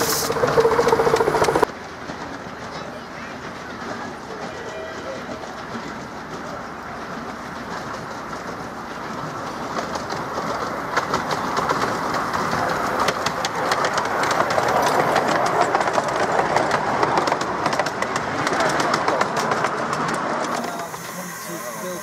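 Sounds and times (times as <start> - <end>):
miniature steam locomotive running: 0.0 - 22.0
wheels clicking over rail joints: 0.0 - 22.0.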